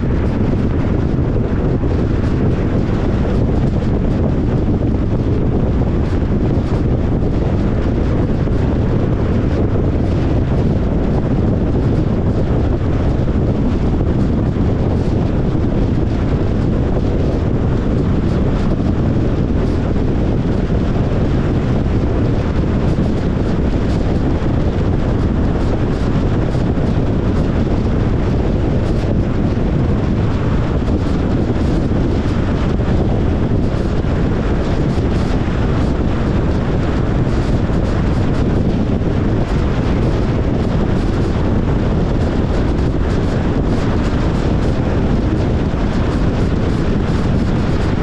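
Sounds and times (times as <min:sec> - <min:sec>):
car road and wind noise: 0:00.0 - 0:48.0.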